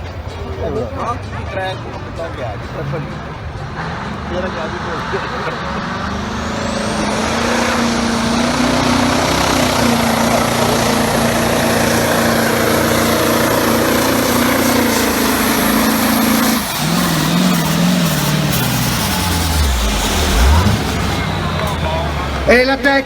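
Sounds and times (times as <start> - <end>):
high engine whine: 0.0 - 23.0
tractor engine running under load: 0.0 - 23.0.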